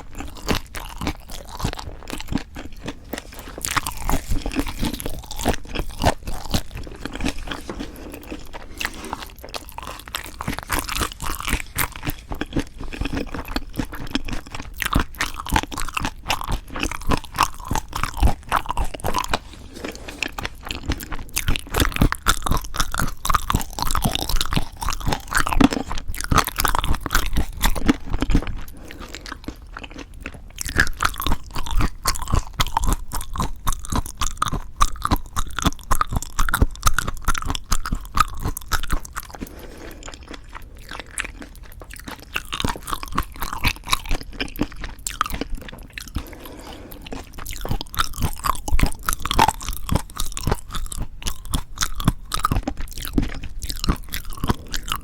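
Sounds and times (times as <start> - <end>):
wet crunchy chewing: 0.0 - 55.0.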